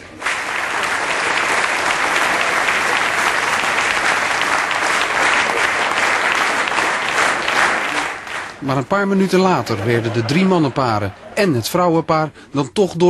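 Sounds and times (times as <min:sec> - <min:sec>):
large audience applauding: 0:00.0 - 0:11.9.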